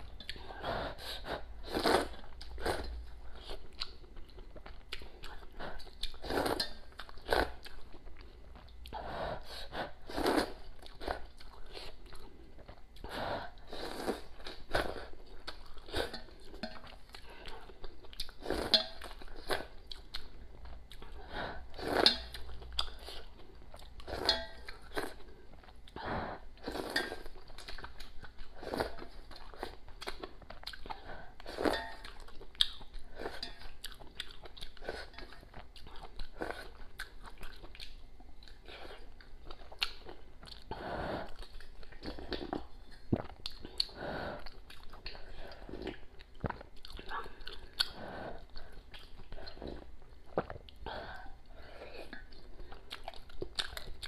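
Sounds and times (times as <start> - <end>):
person slurping and chewing noodles: 0.0 - 54.0.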